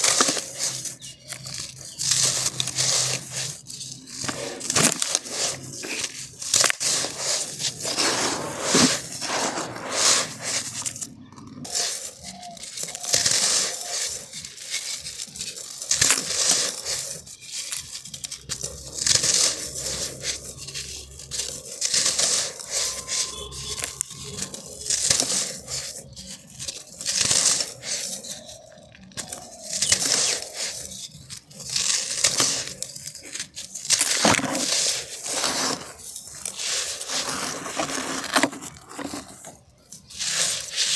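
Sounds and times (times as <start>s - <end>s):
sand crunching by hand: 0.0s - 40.9s.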